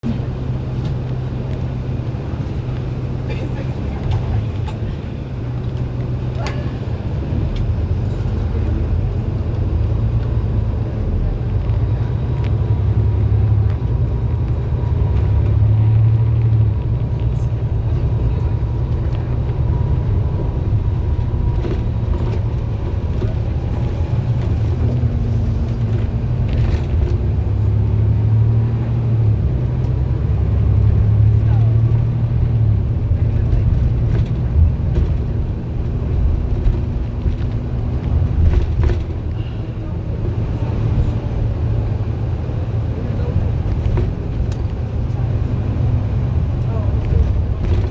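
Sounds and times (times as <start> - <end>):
bus engine droning: 0.0 - 47.9.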